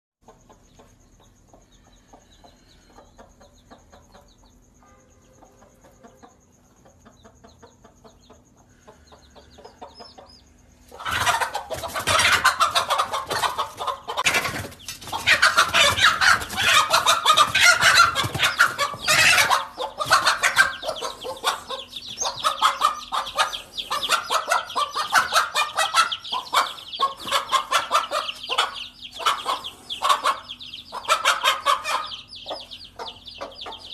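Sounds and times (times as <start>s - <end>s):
chickens clucking and squawking: 0.2s - 33.9s.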